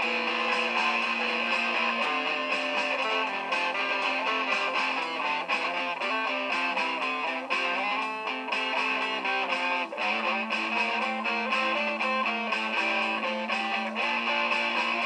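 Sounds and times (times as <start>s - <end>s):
layered looped guitar: 0.0s - 15.0s.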